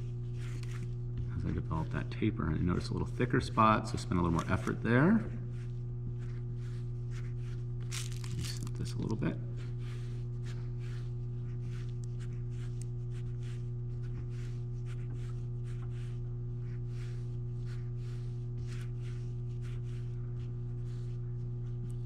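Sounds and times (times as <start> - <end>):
hands rolling clay swishing: 0.0 - 22.0
low electrical hum: 0.0 - 22.0.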